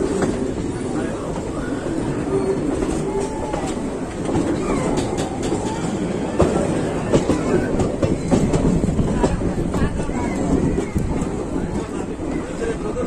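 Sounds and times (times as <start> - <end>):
train coach rumbling: 0.0 - 13.0
wheels clicking over rail joints: 2.5 - 13.0.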